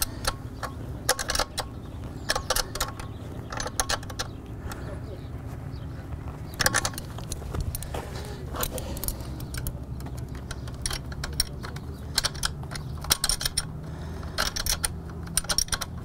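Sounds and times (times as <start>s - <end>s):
metallic clinks and rattles: 0.0s - 4.4s, 6.5s - 7.9s, 8.6s - 16.0s.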